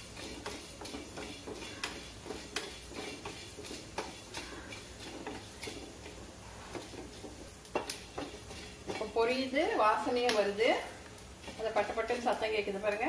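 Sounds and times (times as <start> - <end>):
seeds popping in a pan: 0.0 - 13.0
wooden spatula stirring: 0.0 - 13.0.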